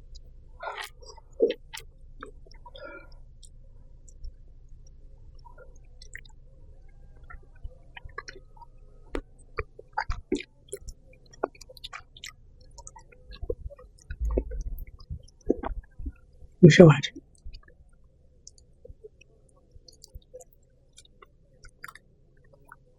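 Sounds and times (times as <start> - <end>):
chewing and mouth sounds: 0.6 - 16.4, 17.2 - 22.9.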